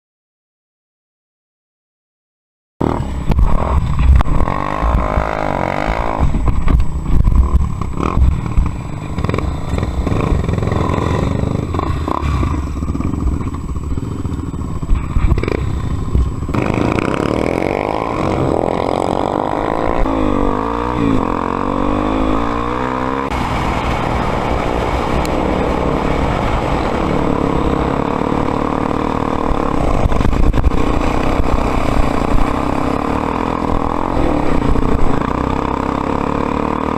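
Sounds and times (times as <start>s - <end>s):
motorcycle engine running: 2.8s - 36.9s.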